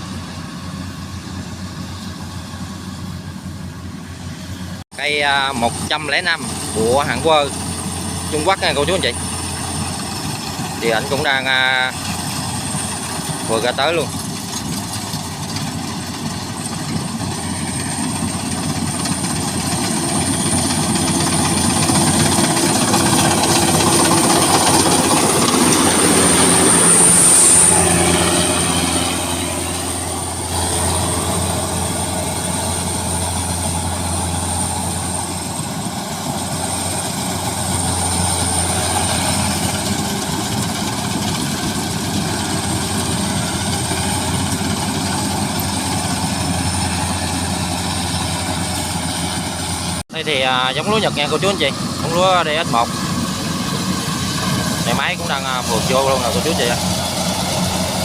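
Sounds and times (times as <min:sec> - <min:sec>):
combine harvesters running: 0:00.0 - 0:58.0.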